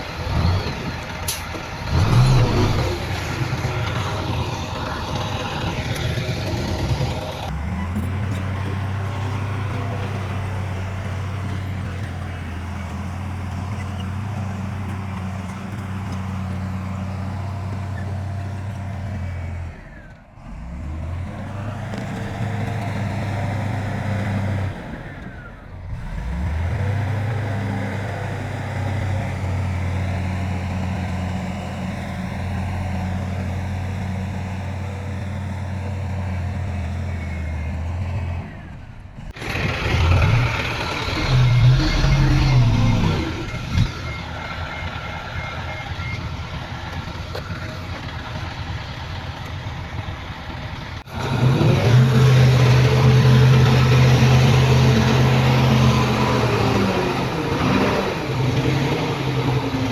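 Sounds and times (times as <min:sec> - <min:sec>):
diesel machinery engine drone: 0:00.0 - 0:59.9
machinery clatter: 0:00.0 - 0:59.9.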